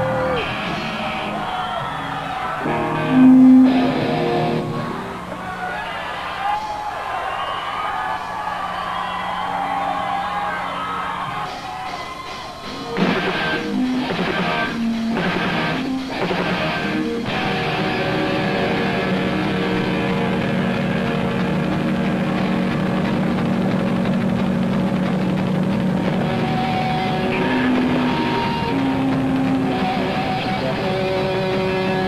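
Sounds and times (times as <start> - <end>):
heavy metal band with distorted guitars: 0.0 - 6.3, 9.2 - 32.0.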